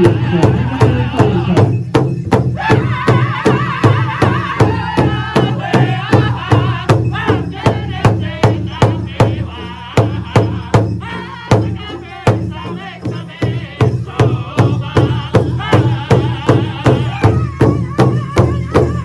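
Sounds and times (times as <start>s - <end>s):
group singing in high-pitched unison: 0.0s - 1.7s, 2.6s - 19.0s
big drum beating: 0.0s - 19.0s.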